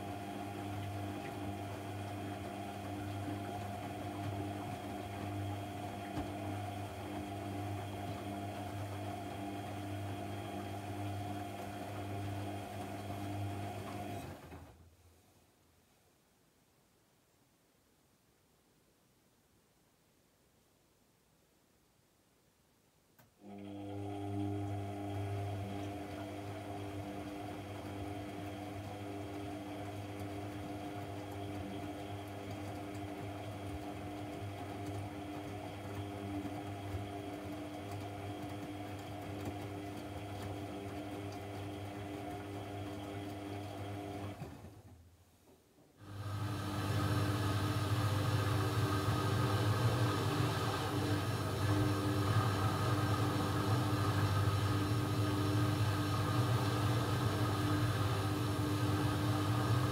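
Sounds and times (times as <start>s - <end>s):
washing machine motor hum: 0.0s - 14.8s, 23.4s - 45.0s, 46.0s - 59.9s.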